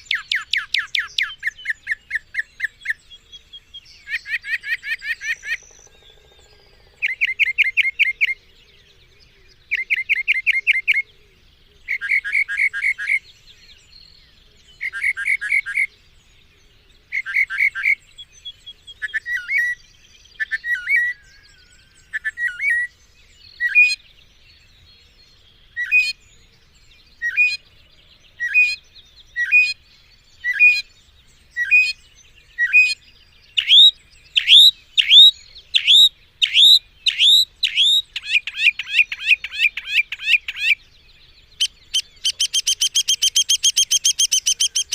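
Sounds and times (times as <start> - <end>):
mockingbird singing: 0.0 - 44.9.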